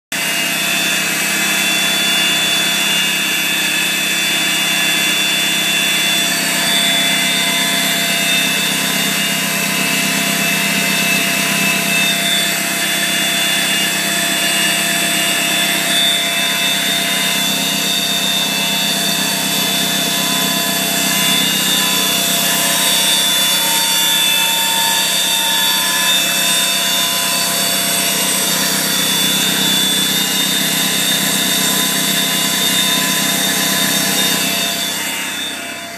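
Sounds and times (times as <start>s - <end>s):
high-pitched air pump whine: 0.1s - 35.9s.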